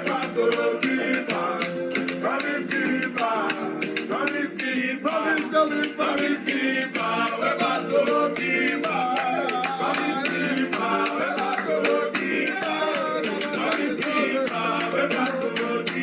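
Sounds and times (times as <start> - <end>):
shaker-like percussion: 0.0 - 16.0.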